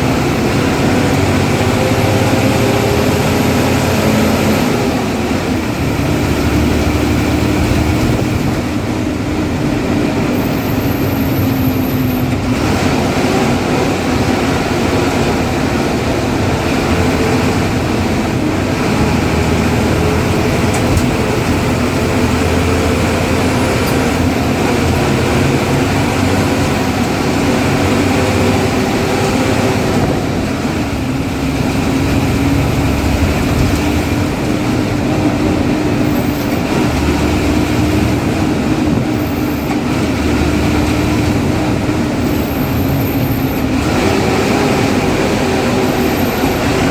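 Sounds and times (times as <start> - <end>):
bus diesel engine droning: 0.0 - 46.9
road noise: 0.0 - 46.9.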